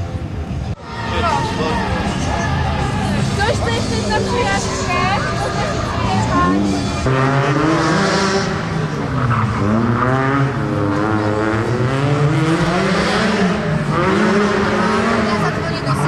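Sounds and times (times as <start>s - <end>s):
rally car engine revving: 1.4s - 16.0s.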